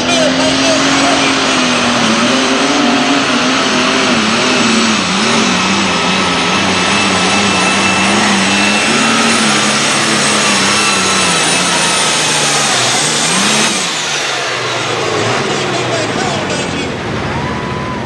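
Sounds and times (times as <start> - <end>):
high steady whine: 0.0 - 18.0
tractor engine at full throttle: 0.0 - 18.0.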